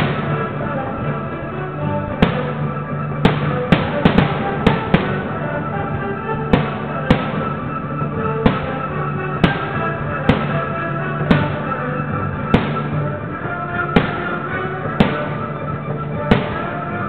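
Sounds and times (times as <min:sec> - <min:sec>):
firework shells bursting: 0:00.0 - 0:17.0
music: 0:00.0 - 0:17.0.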